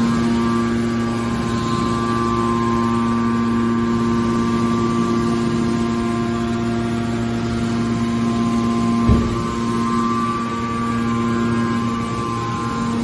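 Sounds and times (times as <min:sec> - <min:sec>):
machine humming and whining: 0:00.0 - 0:13.0.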